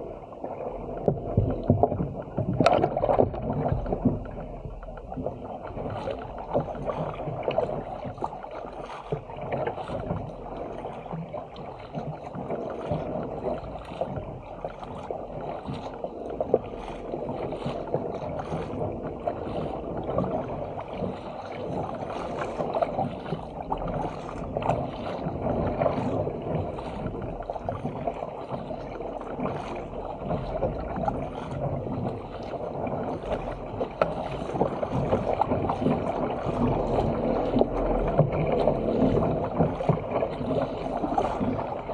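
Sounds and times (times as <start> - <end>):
paddle splashes: 0.0 - 41.9
water rushing along a hull: 0.0 - 41.9.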